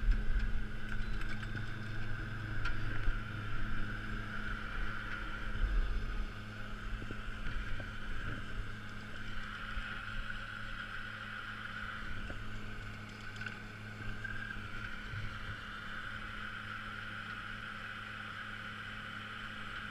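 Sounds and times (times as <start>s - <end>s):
high whine: 0.0s - 19.9s
steady low hum: 0.0s - 19.9s.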